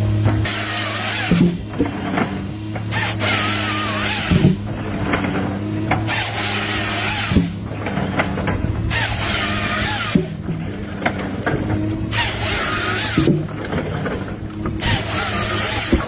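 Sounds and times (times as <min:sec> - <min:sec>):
loud mechanical rattle: 0:00.0 - 0:16.0
machine engine hum: 0:00.0 - 0:16.0.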